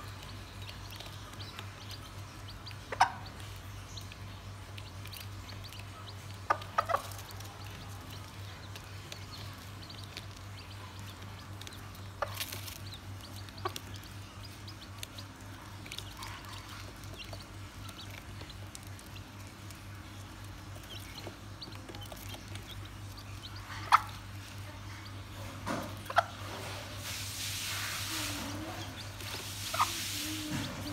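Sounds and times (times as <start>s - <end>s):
beaks pecking on cardboard: 0.0s - 30.9s
chicks peeping: 0.0s - 30.9s.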